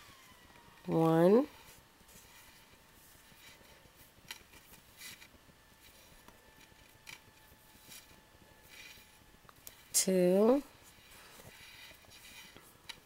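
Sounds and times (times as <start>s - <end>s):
embroidery floss rustling: 0.2s - 13.0s.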